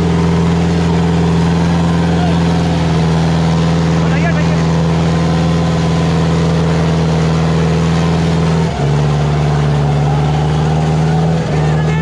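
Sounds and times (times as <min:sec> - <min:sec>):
tractor diesel engine at high revs: 0:00.0 - 0:12.0.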